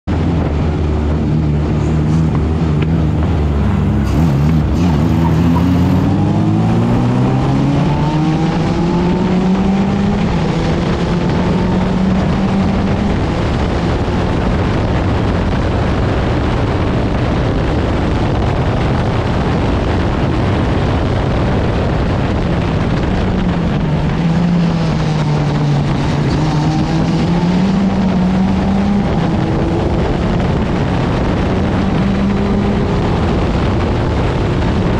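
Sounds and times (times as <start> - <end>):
rushing wind noise: 0.0 - 34.9
race car engine accelerating: 0.1 - 34.9.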